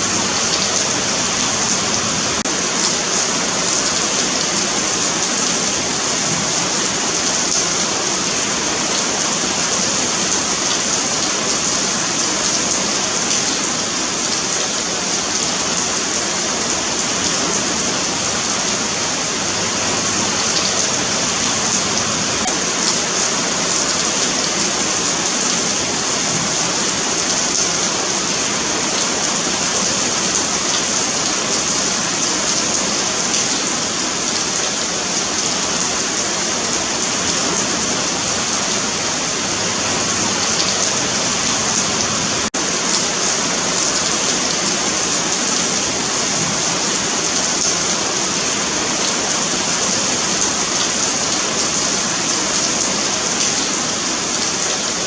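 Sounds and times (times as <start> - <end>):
rain falling on pavement: 0.0 - 55.0.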